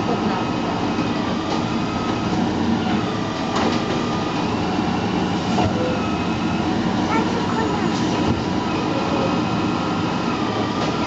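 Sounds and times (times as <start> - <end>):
garbage truck engine drone: 0.0 - 11.0.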